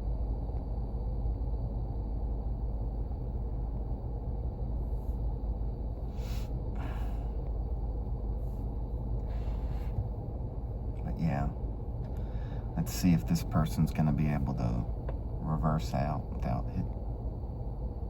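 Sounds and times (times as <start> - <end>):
car engine idling: 1.3 - 18.0.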